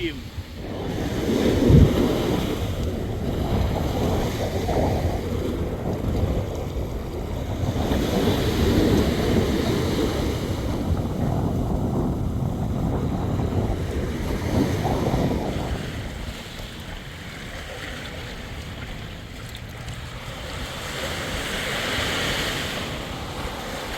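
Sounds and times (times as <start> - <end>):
sea water washing: 0.0 - 23.9
wind buffeting microphone: 0.0 - 23.9.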